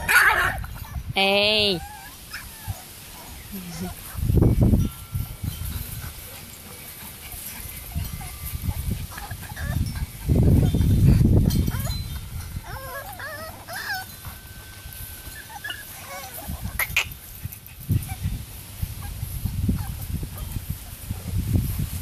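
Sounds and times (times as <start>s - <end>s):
puppies whining and whimpering: 0.0s - 21.0s.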